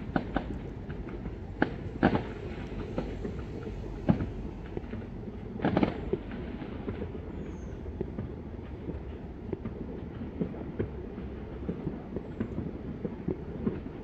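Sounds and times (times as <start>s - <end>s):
firework bangs: 0.0s - 14.0s
low rumble: 0.0s - 14.0s.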